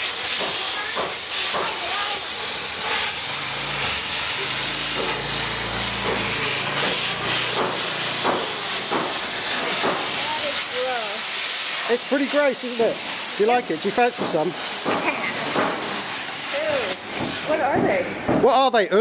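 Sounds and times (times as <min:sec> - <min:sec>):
welding torch flame hissing: 0:00.0 - 0:18.6.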